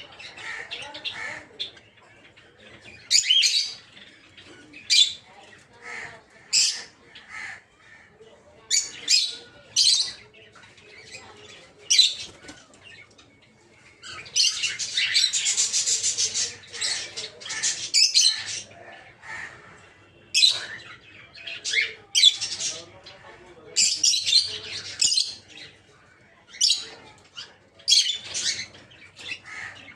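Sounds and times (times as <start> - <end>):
lovebirds chirping and shrieking: 0.0 - 29.9.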